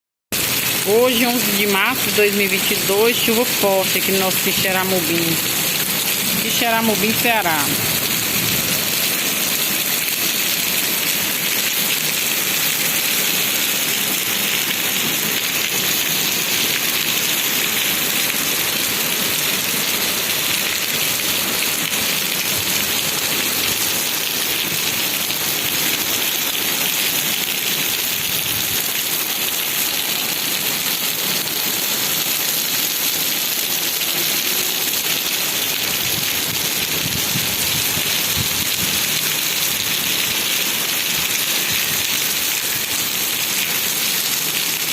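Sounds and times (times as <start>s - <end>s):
heavy rain pouring: 0.3s - 44.9s.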